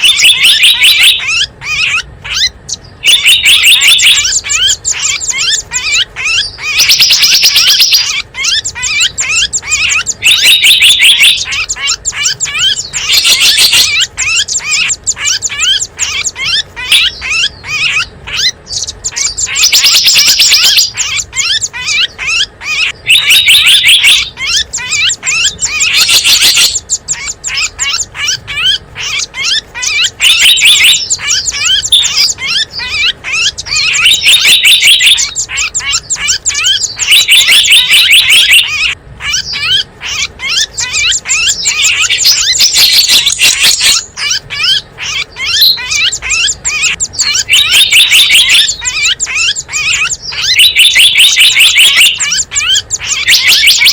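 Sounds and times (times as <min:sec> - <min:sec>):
high-pitched bird bursts: 0:00.0 - 0:53.9
songbirds chirping and calling: 0:00.0 - 0:53.9.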